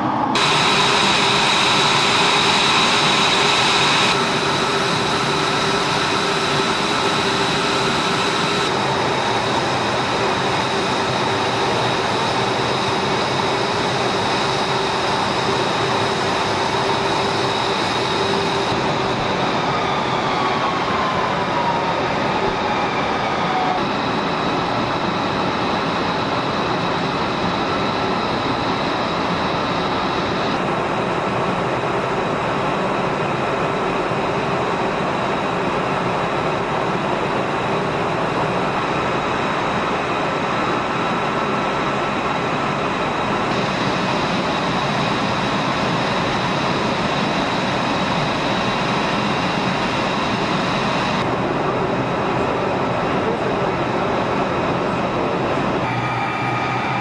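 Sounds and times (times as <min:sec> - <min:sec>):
jet engine roar and whine: 0:00.0 - 0:57.0.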